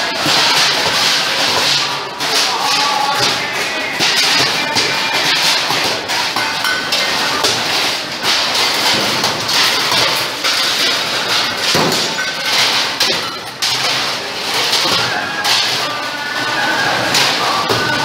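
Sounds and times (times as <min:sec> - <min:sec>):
clatter of steel plates: 0:00.0 - 0:18.0.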